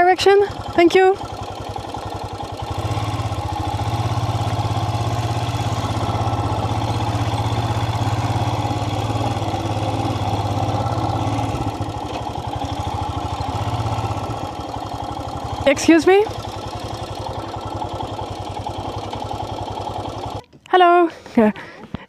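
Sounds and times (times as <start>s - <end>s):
motorcycle engine running: 0.0s - 20.4s.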